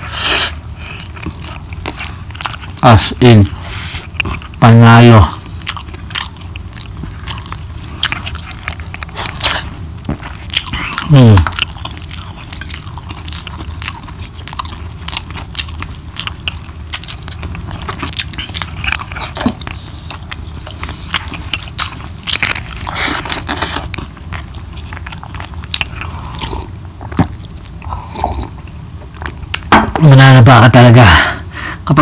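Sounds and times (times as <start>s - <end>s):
person chewing food: 0.0s - 30.1s.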